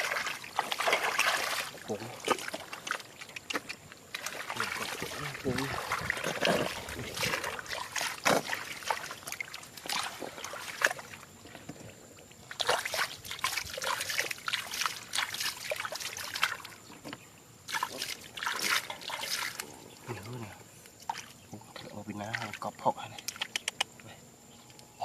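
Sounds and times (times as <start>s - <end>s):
shallow water splashing: 0.0s - 17.0s, 17.6s - 22.8s.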